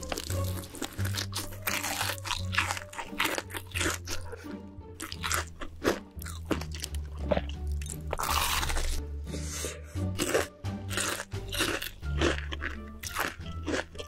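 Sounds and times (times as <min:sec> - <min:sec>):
background music with low notes: 0:00.0 - 0:14.0
crunching and chewing crisp food: 0:00.0 - 0:14.0.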